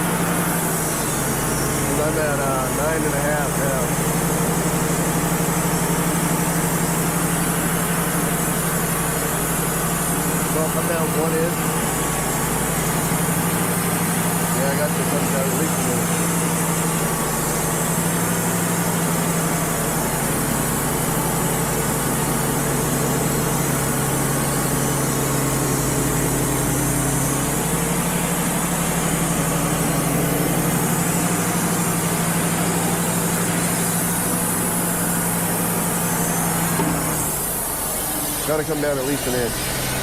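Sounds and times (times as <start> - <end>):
sawmill engine humming: 0.0 - 40.0.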